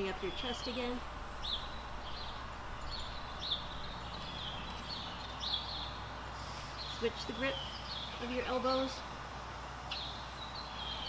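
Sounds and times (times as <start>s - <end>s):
songbird chirping: 0.0s - 11.0s
steady background hiss: 0.0s - 11.0s.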